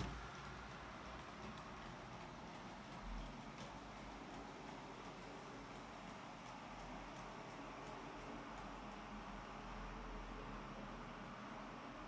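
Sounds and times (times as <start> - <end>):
light wheel ticks: 0.0 - 11.1
model train rolling on track: 0.0 - 12.0.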